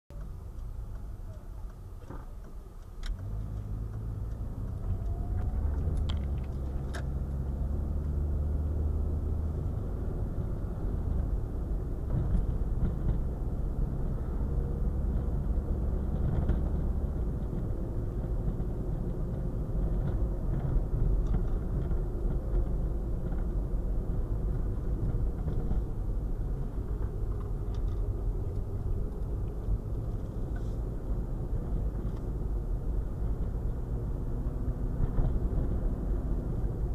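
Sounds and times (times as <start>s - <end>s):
car engine and road rumble: 0.1s - 36.9s.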